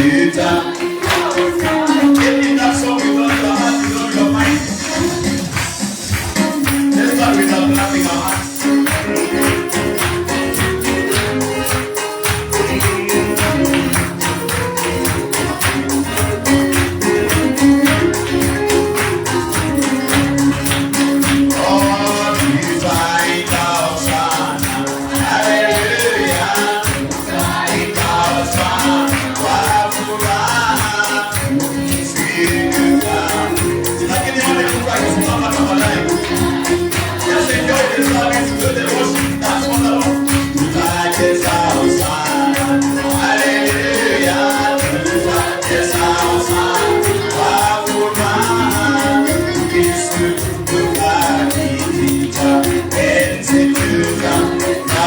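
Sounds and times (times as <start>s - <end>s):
choir singing: 0.0s - 55.0s
steady percussion beat: 0.0s - 55.0s.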